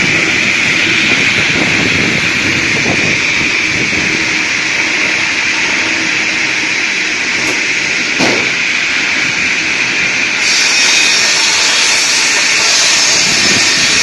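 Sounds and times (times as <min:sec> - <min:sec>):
circular saw cutting log: 0:00.0 - 0:14.0.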